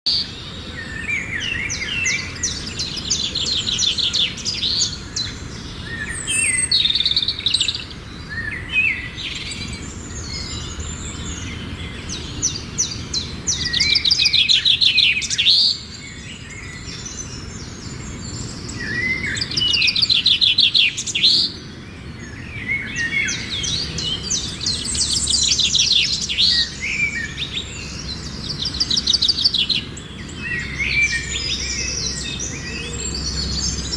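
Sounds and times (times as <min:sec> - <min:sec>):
songbirds trilling: 0:00.1 - 0:33.9.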